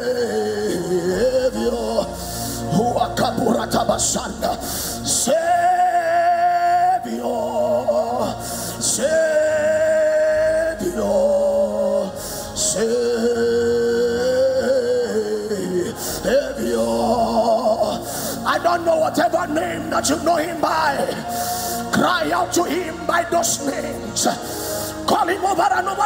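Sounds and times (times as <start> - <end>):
slow worship music held notes: 0.0 - 26.0.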